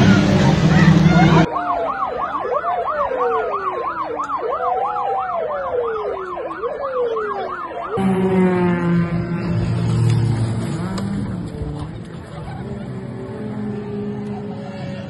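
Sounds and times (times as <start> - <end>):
siren wail: 0.0 - 15.0
siren yelp: 0.0 - 15.0.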